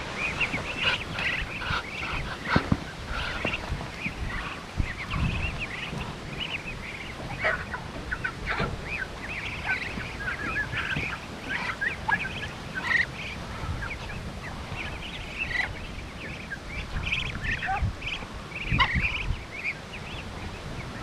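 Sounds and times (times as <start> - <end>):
ducks calling: 0.0 - 21.0.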